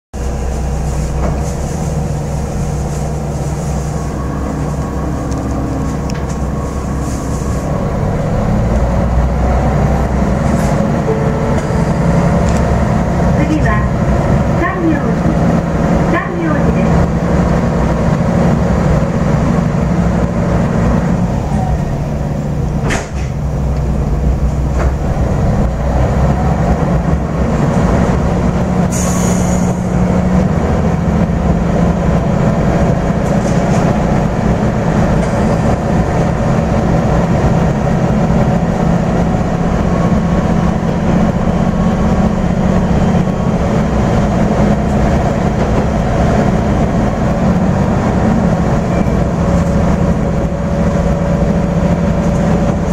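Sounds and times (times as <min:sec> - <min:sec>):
diesel railcar engine drone: 0:00.1 - 0:52.9
train track noise: 0:00.2 - 0:52.9.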